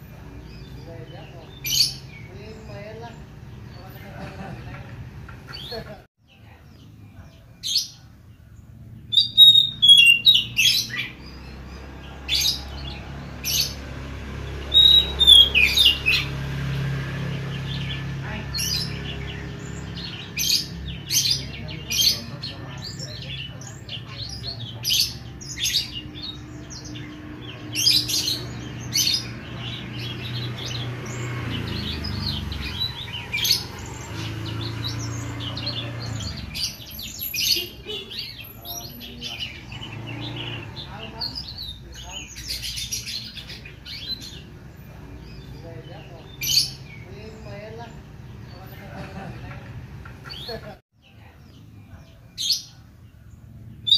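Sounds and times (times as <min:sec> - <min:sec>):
bird singing sharp chirps: 0:00.0 - 0:03.9, 0:06.4 - 0:48.7.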